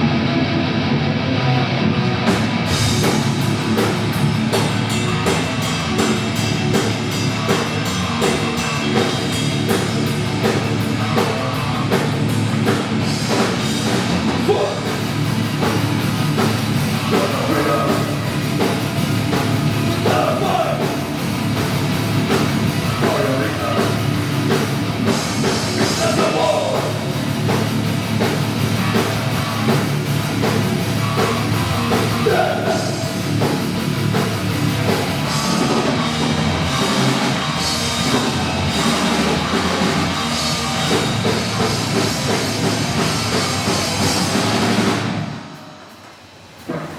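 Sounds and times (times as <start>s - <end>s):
metal band playing: 0.0s - 46.9s
rapid drumming: 1.7s - 46.9s.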